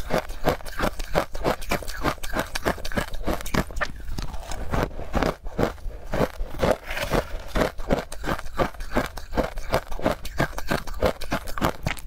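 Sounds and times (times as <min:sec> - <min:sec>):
crunchy chewing of ice: 0:00.0 - 0:12.0.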